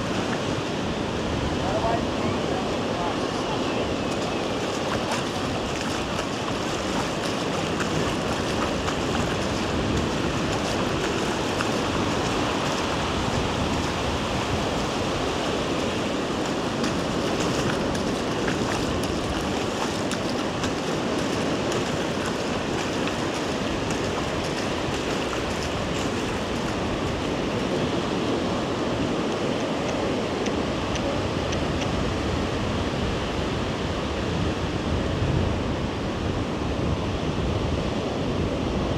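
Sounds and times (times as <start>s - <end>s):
ocean surf breaking waves: 0.0s - 34.1s.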